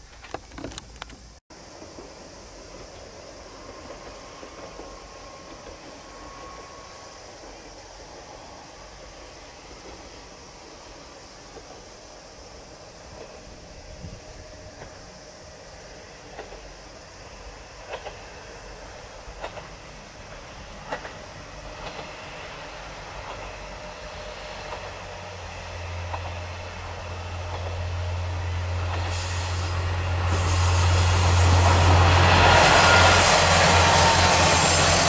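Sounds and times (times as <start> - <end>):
diesel train engine hum: 0.0 - 35.0
wheels rushing on rails: 0.0 - 35.0.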